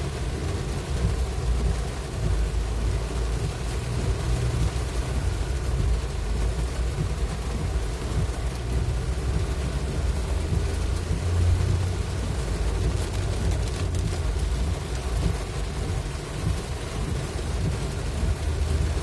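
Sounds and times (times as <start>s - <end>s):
rain hissing: 0.0s - 19.0s
vehicle engine and road rumble: 0.0s - 19.0s
wet tyres on road: 0.0s - 19.0s.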